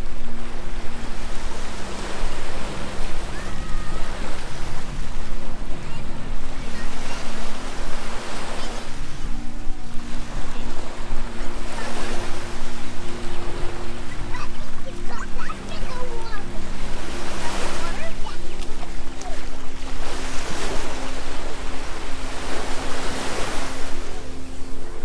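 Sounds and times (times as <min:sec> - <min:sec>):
small waves breaking on sand: 0:00.0 - 0:25.0.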